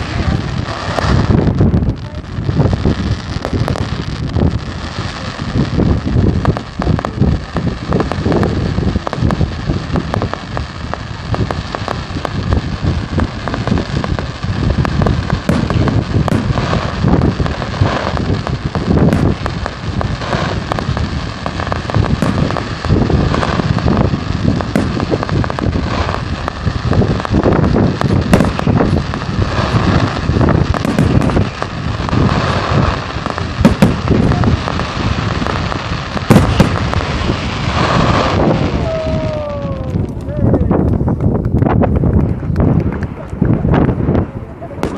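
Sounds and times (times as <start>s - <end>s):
fireworks bangs: 0.0s - 44.9s
fireworks crackling and popping: 0.0s - 44.9s.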